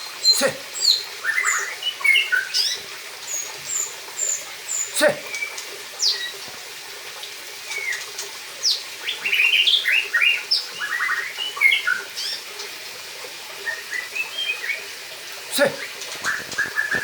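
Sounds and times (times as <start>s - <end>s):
songbird singing: 0.0s - 6.4s, 7.7s - 12.5s, 13.6s - 14.9s, 15.6s - 17.0s.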